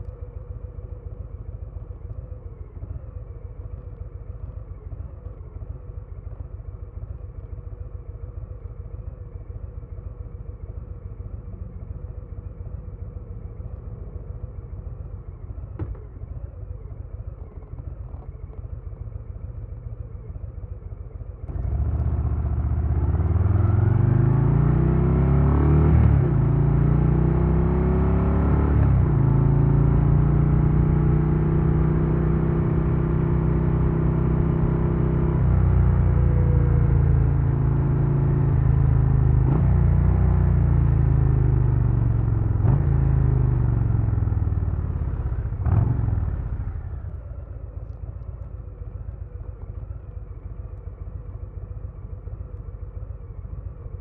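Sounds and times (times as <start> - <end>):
motorcycle engine idling and accelerating: 0.0 - 54.0.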